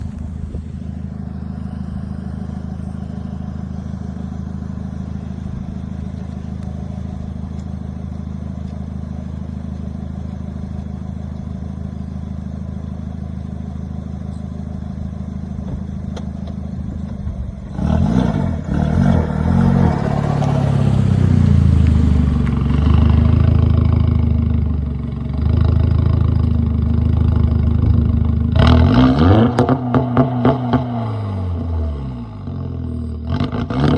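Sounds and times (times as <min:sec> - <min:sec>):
car exhaust idling and revving: 0:00.0 - 0:33.9.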